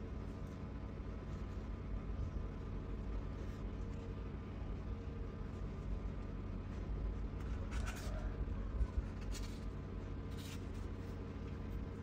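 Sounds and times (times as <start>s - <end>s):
kittens scratching cardboard: 0.0s - 12.0s
low hum: 0.0s - 12.0s.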